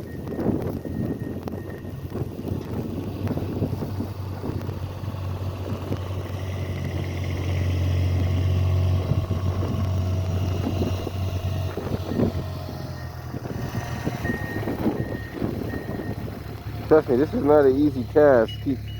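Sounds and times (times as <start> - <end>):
snow-removal vehicle engine running: 0.0 - 18.9.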